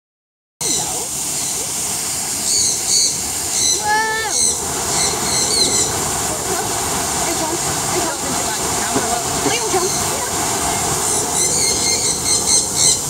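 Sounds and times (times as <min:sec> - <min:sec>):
longer lower bird call: 0:00.6 - 0:07.2, 0:08.0 - 0:13.0
small birds chirping: 0:00.6 - 0:13.0.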